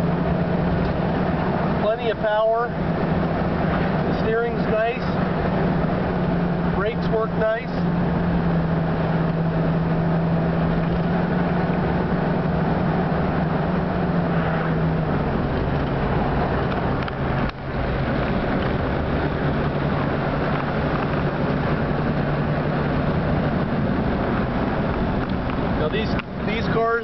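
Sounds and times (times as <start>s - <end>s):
car engine running: 0.0s - 27.0s
road noise: 0.0s - 27.0s.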